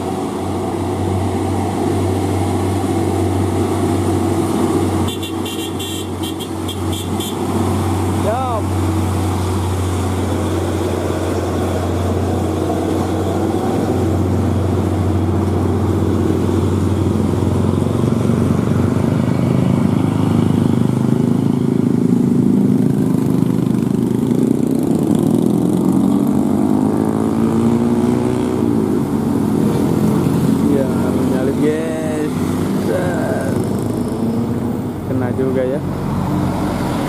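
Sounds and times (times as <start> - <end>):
vehicle engines running: 0.0 - 37.0.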